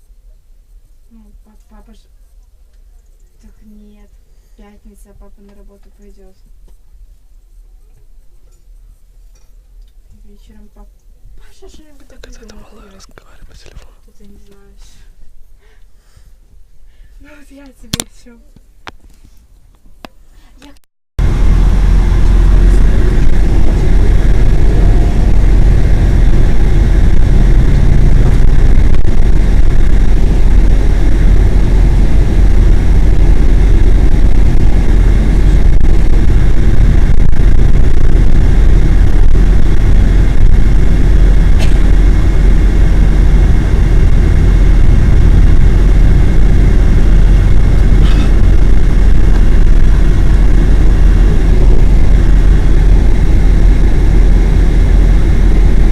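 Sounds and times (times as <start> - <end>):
bus engine rumbling: 3.0 - 15.5, 20.6 - 55.9.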